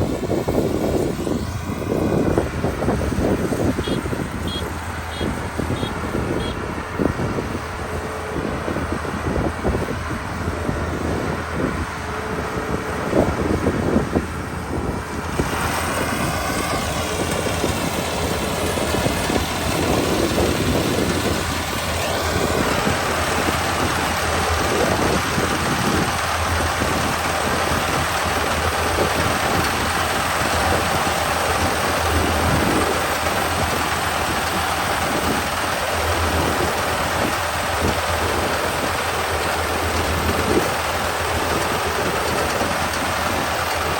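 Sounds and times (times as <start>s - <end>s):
diesel engine humming: 0.0s - 43.9s
harvesting machinery rushing noise: 0.0s - 43.9s.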